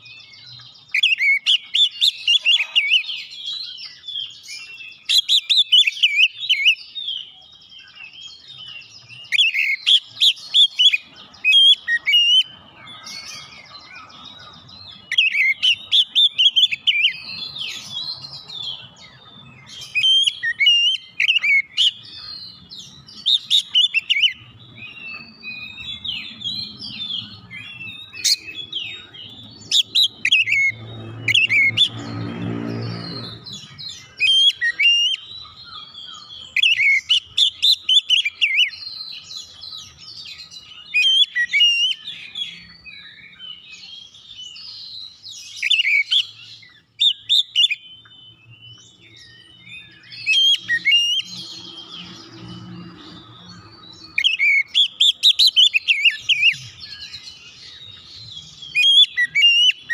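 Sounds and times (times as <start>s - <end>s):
bird singing whistles and chirps: 0.0s - 59.9s.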